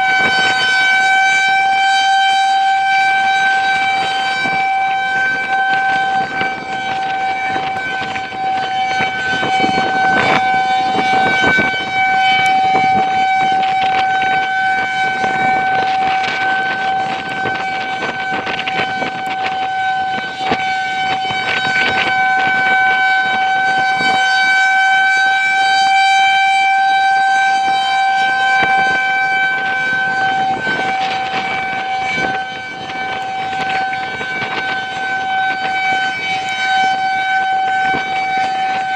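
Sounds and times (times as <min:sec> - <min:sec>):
warning siren steady tone: 0:00.0 - 0:38.9
wind buffeting microphone: 0:00.0 - 0:38.9.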